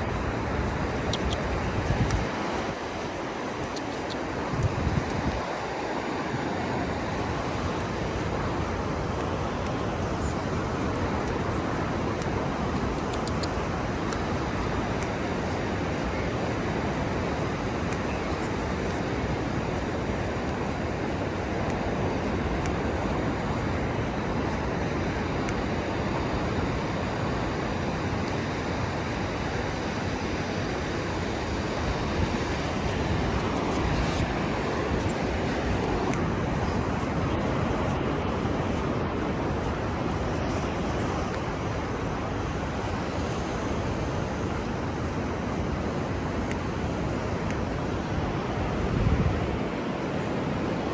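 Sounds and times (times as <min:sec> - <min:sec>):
ocean surf breaking: 0:00.0 - 0:50.9
wind: 0:00.0 - 0:50.9.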